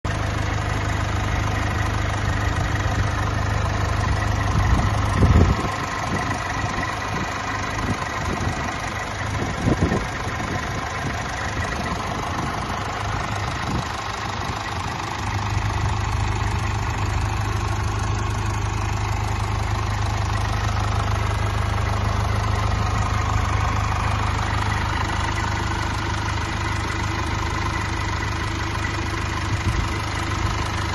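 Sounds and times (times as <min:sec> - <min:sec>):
van engine idling: 0:00.0 - 0:30.9.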